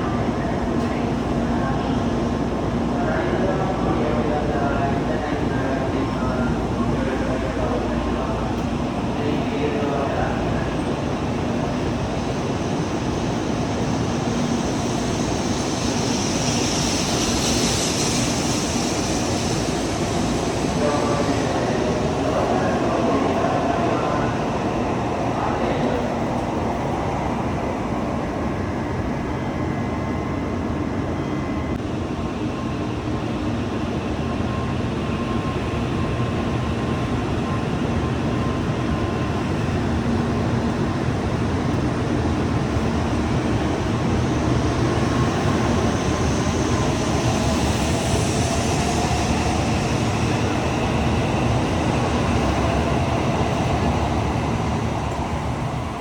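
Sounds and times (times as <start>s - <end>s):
bullet train rail rumble: 0.0s - 56.0s.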